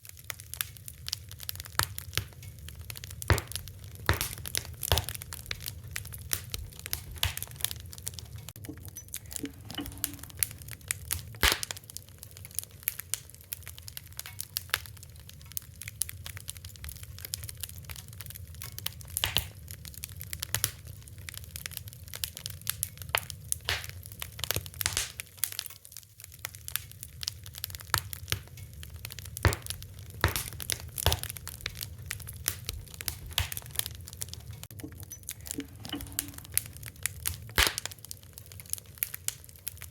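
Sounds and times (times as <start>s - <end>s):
fire crackling and popping: 0.0s - 39.9s
low rumble of burning: 0.0s - 39.9s.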